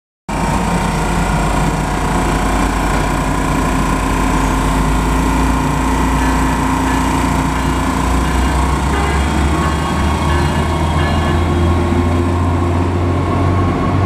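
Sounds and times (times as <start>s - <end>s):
train engines droning: 0.3s - 14.0s.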